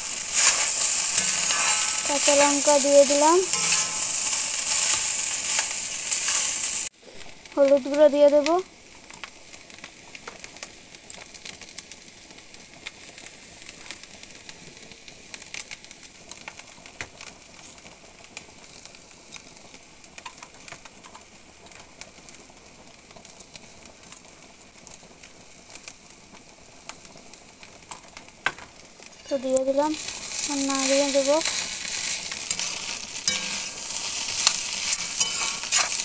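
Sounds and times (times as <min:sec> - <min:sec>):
rice sizzling in oil: 0:00.0 - 0:36.0.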